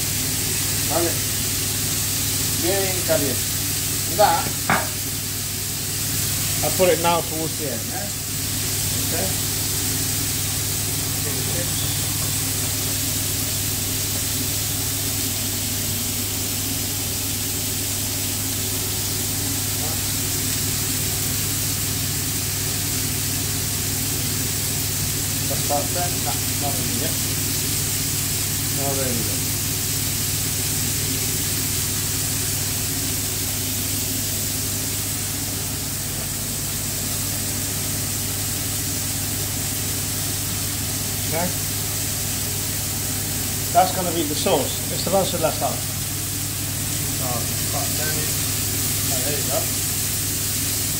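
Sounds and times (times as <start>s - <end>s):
chips bubbling in deep fryer: 0.0s - 50.9s
extractor fan humming: 0.0s - 50.9s
meat sizzling in frying pans: 0.0s - 50.9s.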